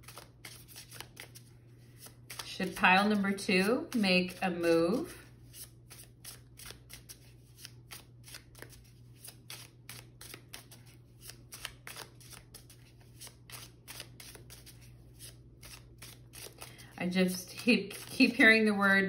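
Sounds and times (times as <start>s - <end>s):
cards being shuffled: 0.0s - 4.4s, 5.0s - 18.3s.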